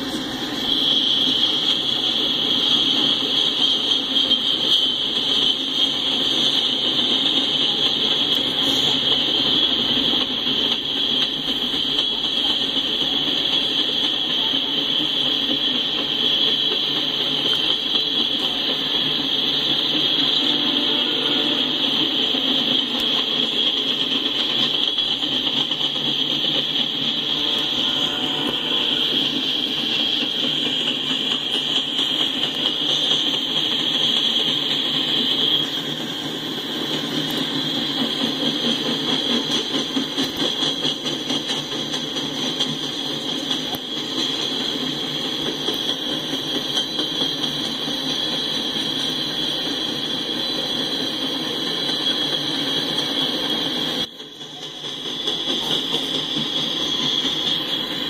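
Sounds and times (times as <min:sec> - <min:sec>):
high-pitched hiss: 0:00.0 - 0:58.0
steel wheels rumbling on rail: 0:00.0 - 0:58.0.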